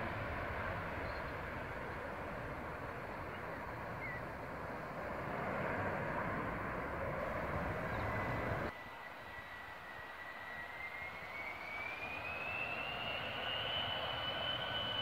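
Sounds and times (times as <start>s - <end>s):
distant turbofan whine: 0.0s - 15.0s
jet airliner climbing rush: 0.0s - 15.0s.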